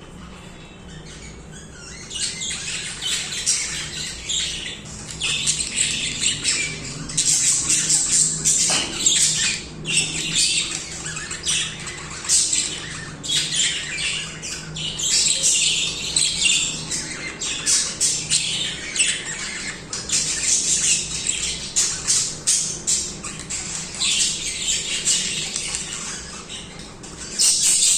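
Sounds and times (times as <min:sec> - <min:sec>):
budgerigars warbling and chattering: 0:00.0 - 0:27.9.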